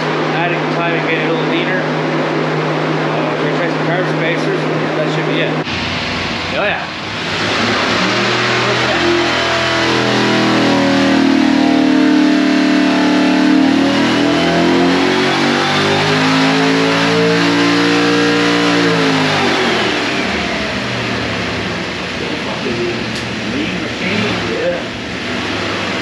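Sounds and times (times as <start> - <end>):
engine revving at full throttle: 0.0 - 26.0.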